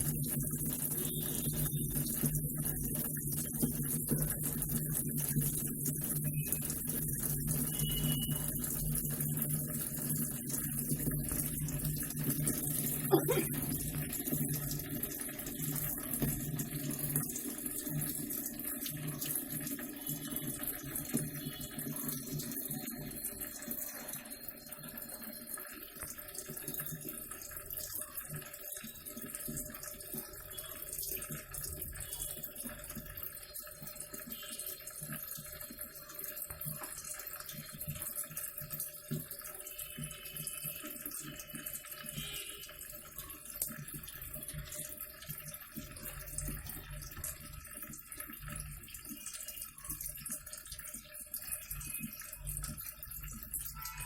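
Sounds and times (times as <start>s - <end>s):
water pouring into washing machine: 0.0s - 54.0s.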